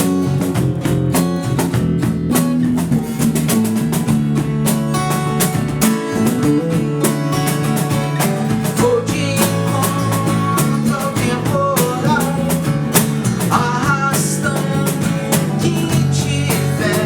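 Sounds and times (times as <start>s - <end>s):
bass guitar: 0.0s - 17.0s
drum kit beat: 0.0s - 17.0s
strummed guitar chords: 0.0s - 17.0s.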